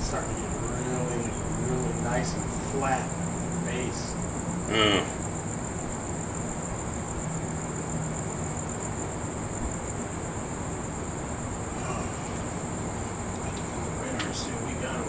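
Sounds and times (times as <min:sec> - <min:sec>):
crickets chirring: 0:00.0 - 0:15.0
low background noise: 0:00.0 - 0:15.0.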